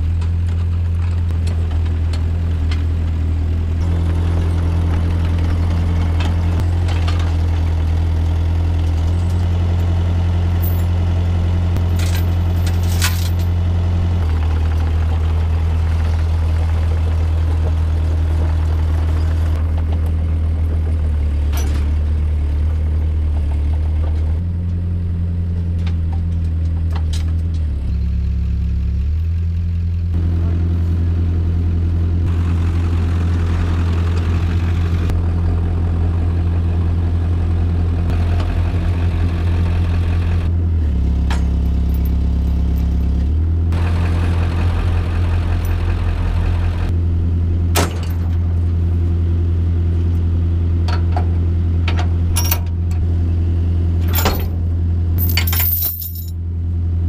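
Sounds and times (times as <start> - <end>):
excavator diesel engine running: 0.0 - 55.5.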